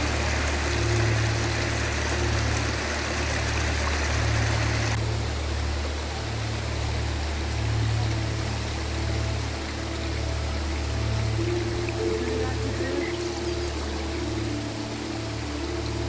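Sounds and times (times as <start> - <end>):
low soft musical drone: 0.0 - 16.0
river water rushing: 0.0 - 16.0.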